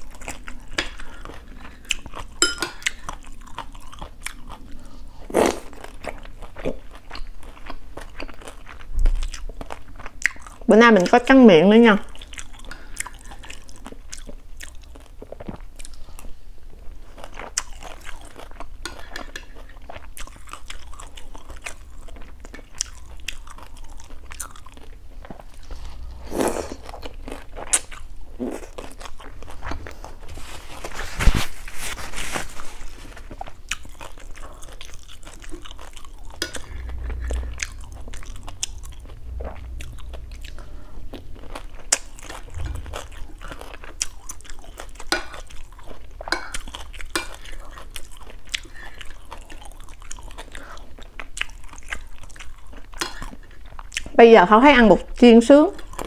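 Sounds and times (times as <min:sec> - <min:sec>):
chewing and biting crunchy food: 0:00.0 - 0:11.1, 0:12.0 - 0:54.2, 0:55.7 - 0:56.0.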